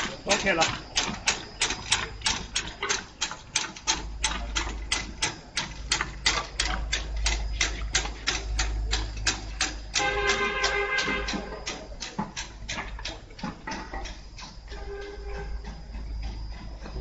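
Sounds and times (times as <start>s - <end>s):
low mechanical hum: 0.0s - 17.0s
sharp machine clicks: 0.0s - 17.0s.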